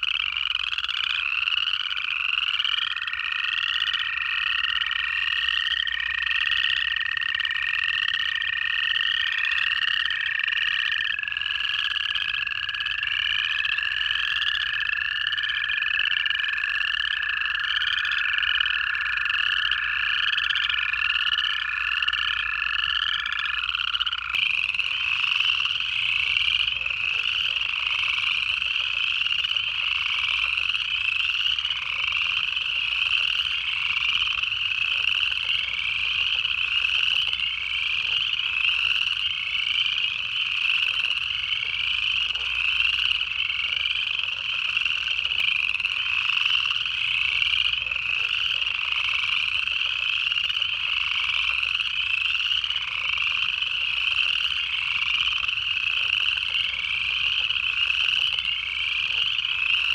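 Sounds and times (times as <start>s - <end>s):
chorus of frogs trilling: 0.0s - 59.9s.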